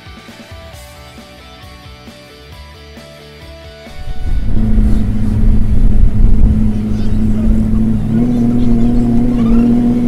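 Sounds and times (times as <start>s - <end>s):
soft guitar background music: 0.0s - 10.0s.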